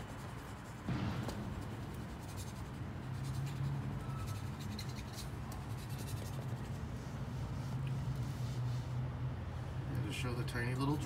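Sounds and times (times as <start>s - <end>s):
faint scratching: 0.0s - 9.1s.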